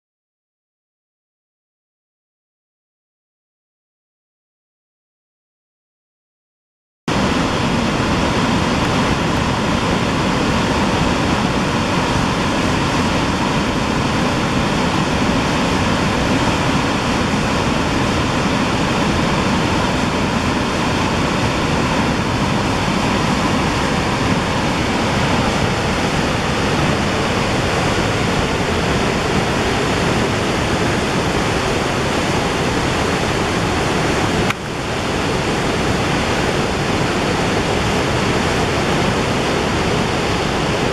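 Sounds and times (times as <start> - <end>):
waterfall rushing: 7.1 - 40.9.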